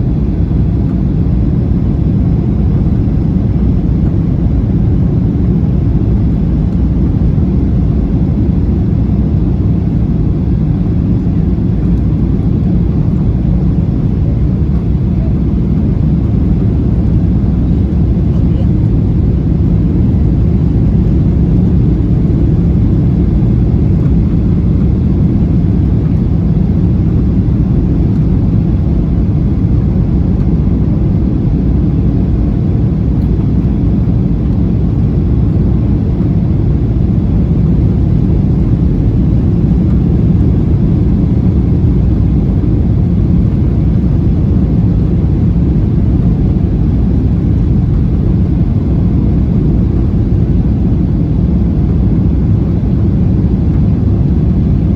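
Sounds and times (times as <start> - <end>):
airplane engine rumble in cabin: 0.0 - 54.9.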